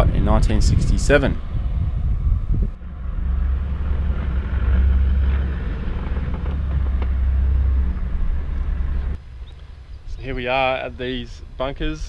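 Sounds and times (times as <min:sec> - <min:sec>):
vehicle engine rumble from inside: 0:00.0 - 0:10.3
tyre and road noise: 0:00.0 - 0:11.8.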